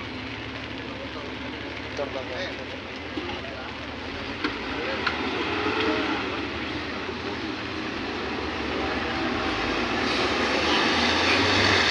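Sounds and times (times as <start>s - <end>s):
moving vehicle noise: 0.0s - 11.9s.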